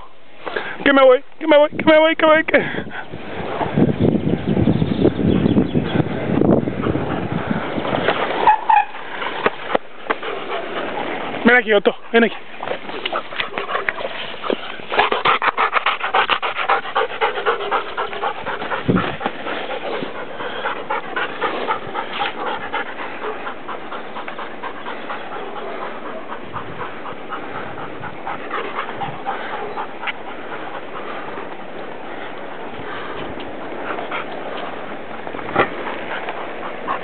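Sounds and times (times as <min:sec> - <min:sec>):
dog panting: 0:06.6 - 0:37.0.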